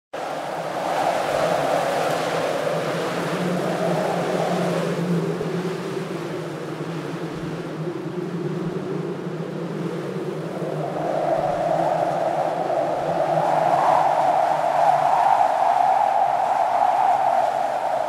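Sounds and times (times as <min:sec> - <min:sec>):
strong wind blowing: 0:00.2 - 0:18.0.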